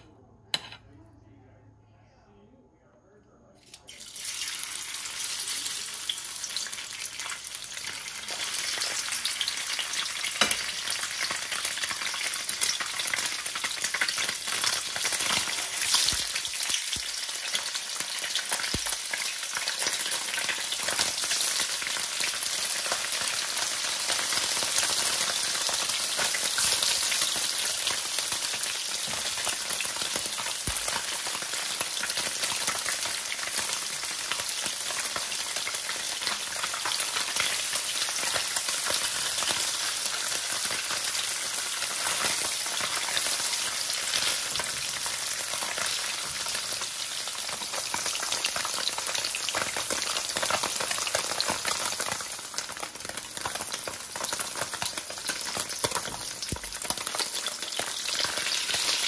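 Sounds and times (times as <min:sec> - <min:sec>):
tofu sizzling in hot oil: 0:03.9 - 0:59.0.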